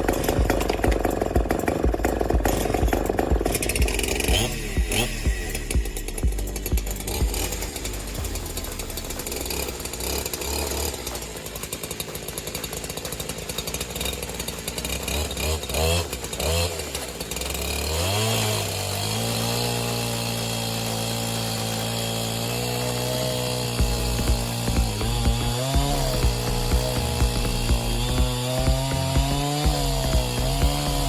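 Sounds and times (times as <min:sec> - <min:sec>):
chainsaw revving unevenly: 0:00.0 - 0:31.0.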